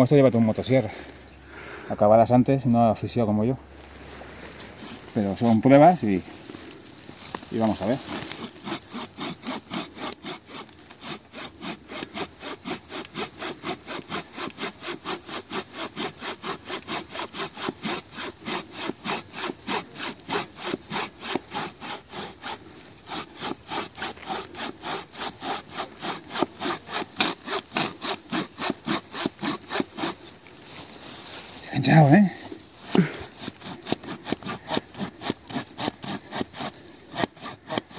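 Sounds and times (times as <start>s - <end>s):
hand saw cutting log: 4.6s - 37.9s.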